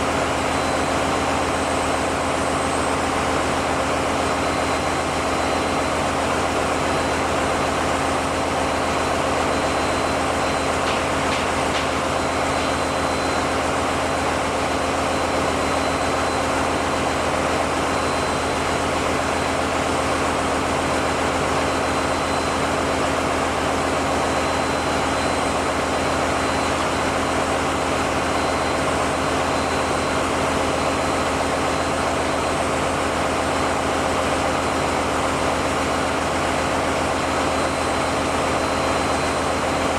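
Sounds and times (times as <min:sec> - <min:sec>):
constant machinery whine: 0:00.0 - 0:39.9
diesel generator engines droning: 0:00.0 - 0:39.9.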